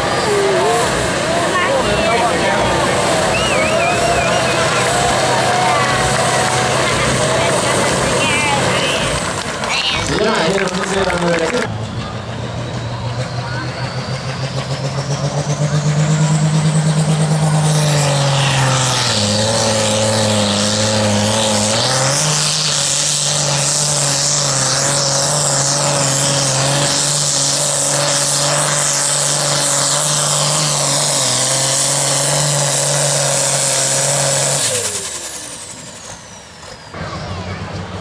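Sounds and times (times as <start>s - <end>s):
tractor engine at full throttle: 0.0s - 38.0s.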